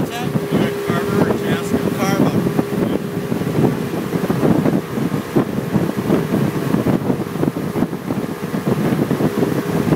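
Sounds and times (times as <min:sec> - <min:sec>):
motorboat engine: 0:00.0 - 0:09.9
water rushing: 0:00.0 - 0:09.9
wind buffeting microphone: 0:00.0 - 0:09.9.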